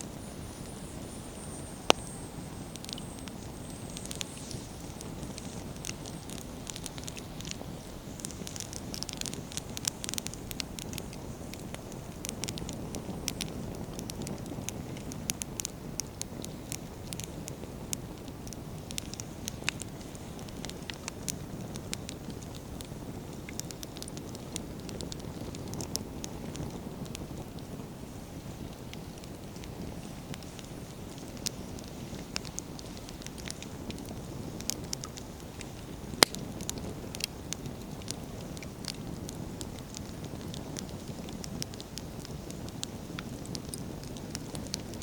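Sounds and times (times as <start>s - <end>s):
firewood crackling and popping: 0.0s - 45.0s
low rush of flames: 0.0s - 45.0s.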